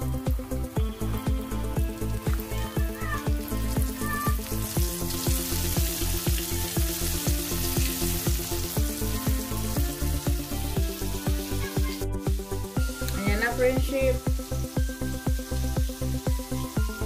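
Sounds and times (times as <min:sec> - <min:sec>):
background music with steady beat: 0:00.0 - 0:17.0
chicken sizzling in hot oil: 0:00.0 - 0:17.0.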